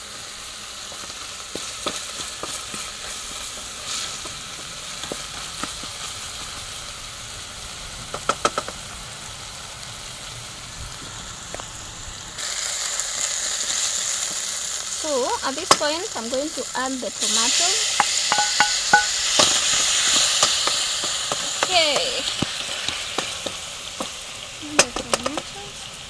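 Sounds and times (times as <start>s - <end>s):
onions frying in oil: 0.0s - 26.0s.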